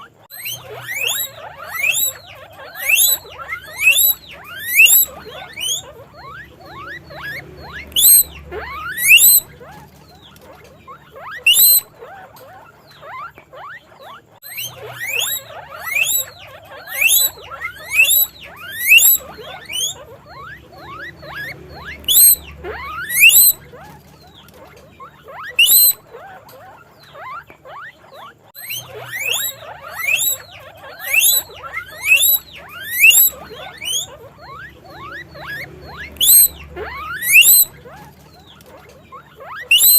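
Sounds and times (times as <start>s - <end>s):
guinea pigs squealing: 0.0s - 39.9s.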